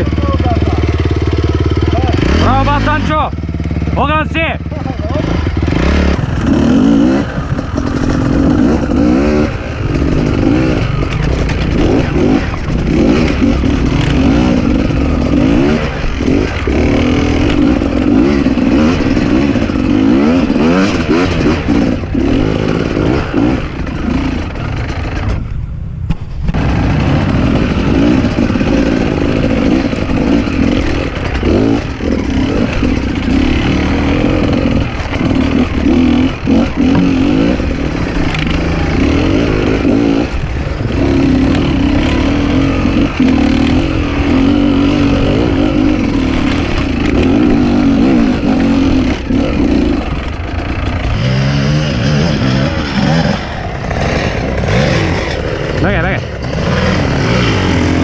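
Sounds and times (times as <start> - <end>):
dirt bike engine revving: 0.0 - 25.5, 26.5 - 58.0.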